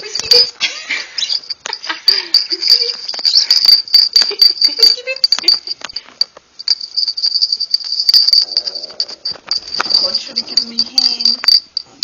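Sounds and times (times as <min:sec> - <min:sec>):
small cage bell jingling: 0:00.0 - 0:12.0.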